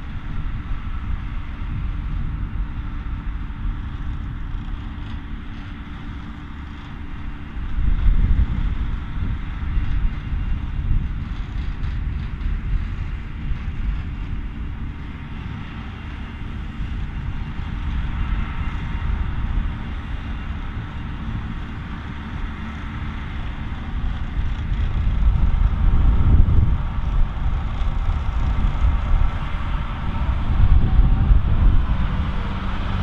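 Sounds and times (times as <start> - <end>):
tractor engine and machinery rumble: 0.0 - 33.0.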